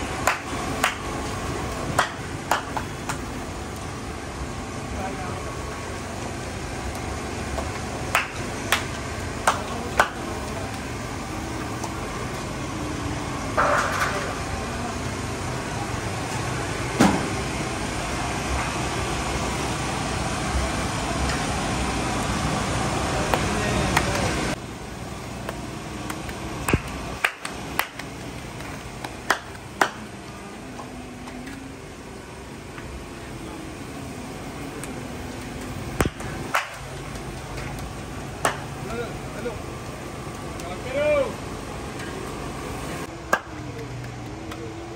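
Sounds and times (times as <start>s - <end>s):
street traffic: 0.0s - 44.9s.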